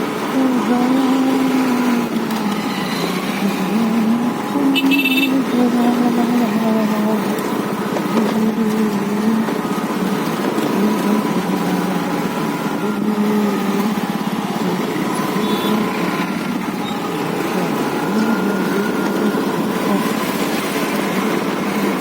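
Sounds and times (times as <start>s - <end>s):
road and wind noise: 0.0s - 22.0s
scooter engine running: 0.0s - 22.0s.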